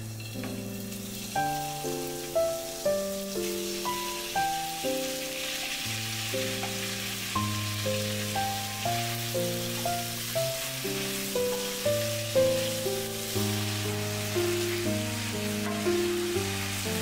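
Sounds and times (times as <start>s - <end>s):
background music melody: 0.0s - 17.0s
meat sizzling in oil: 0.0s - 17.0s.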